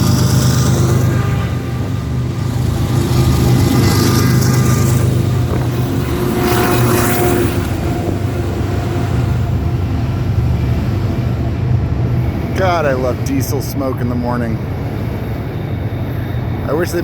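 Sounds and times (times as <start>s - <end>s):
diesel locomotive engines droning: 0.0s - 17.0s.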